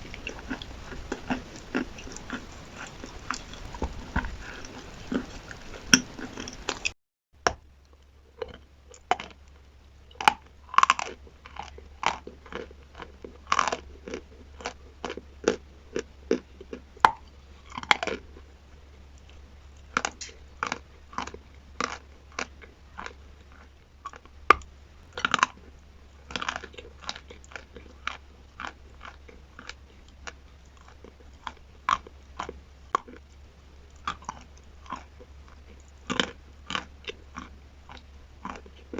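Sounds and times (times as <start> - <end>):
chalk crunching while chewed: 0.0 - 7.0, 7.9 - 38.9
faint low hum: 0.0 - 38.9.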